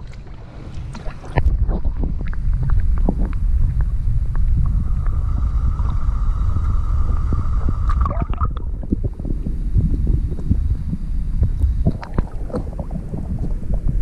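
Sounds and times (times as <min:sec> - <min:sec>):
steady hum: 0:00.0 - 0:14.0
underwater rumble and sloshing: 0:00.0 - 0:14.0.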